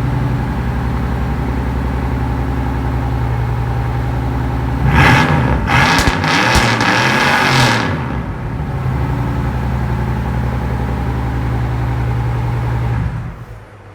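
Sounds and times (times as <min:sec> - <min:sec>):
car engine revving and idling: 0:00.0 - 0:13.8.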